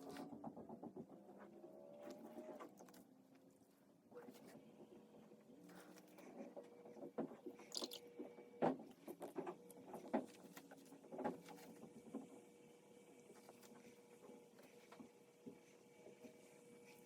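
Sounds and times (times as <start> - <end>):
brush tapping and scraping: 0.0 - 17.0
faint steady hum: 0.0 - 17.0.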